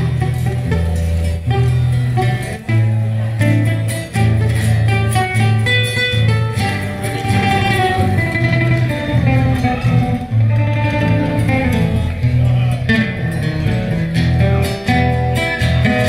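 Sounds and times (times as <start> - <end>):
guitar with bass line: 0.0 - 16.0.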